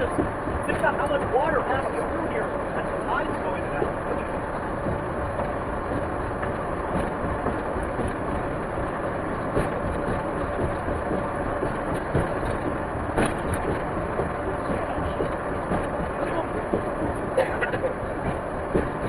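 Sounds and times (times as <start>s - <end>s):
car cabin road and engine noise: 0.0s - 19.0s
road knocks: 0.0s - 19.0s.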